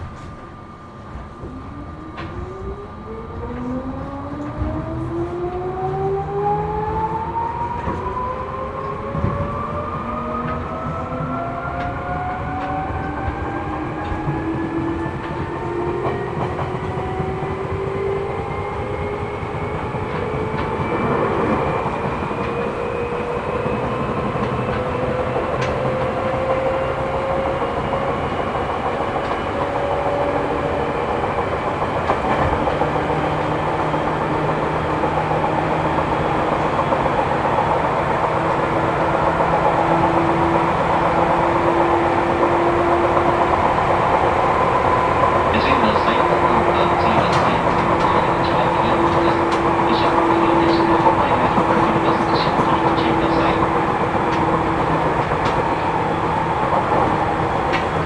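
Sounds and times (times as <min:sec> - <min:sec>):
train traction motor whine: 0:00.0 - 0:58.0
train wheels clattering on rails: 0:08.8 - 0:58.0.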